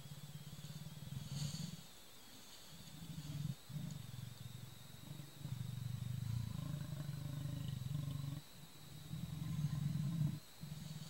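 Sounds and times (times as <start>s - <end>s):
leopard growling: 0.0s - 1.9s, 2.7s - 11.0s.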